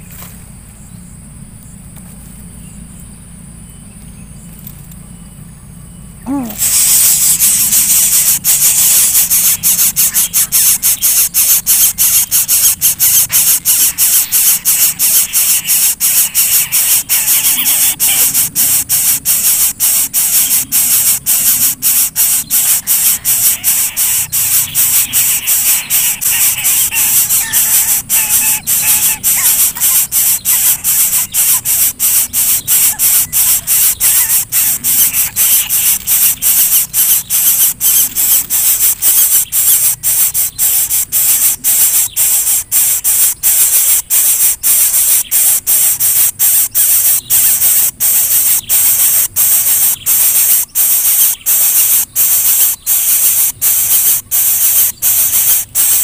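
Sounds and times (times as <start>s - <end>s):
nestlings begging hiss: 6.3s - 56.0s.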